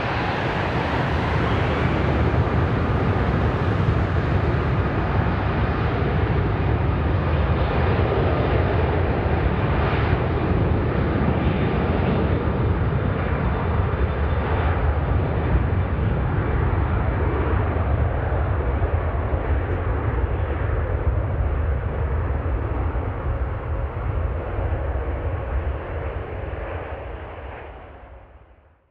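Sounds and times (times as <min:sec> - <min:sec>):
jet engines roaring: 0:00.0 - 0:28.3.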